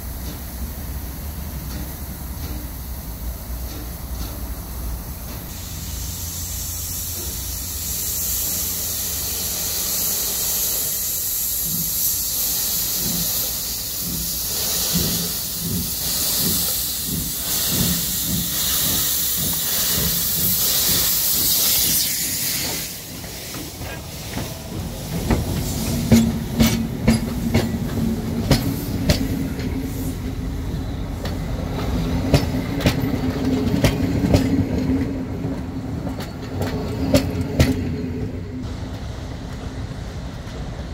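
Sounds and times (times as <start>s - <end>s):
steam hiss: 0.0s - 35.5s
steam locomotive exhaust beats: 0.0s - 40.9s
train wheels clicking over rail joints: 0.0s - 40.9s.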